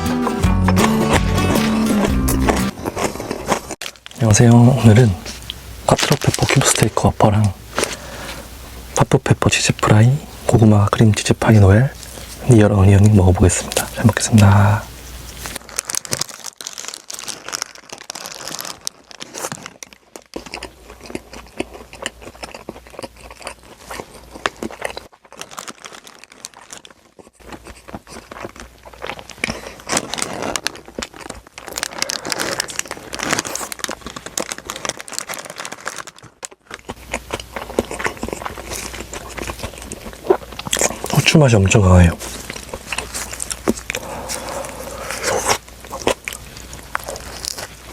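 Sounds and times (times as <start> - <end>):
biting and chewing food: 0.0 - 47.9
paper wrapper crinkling and tearing: 0.9 - 21.2, 23.6 - 47.9.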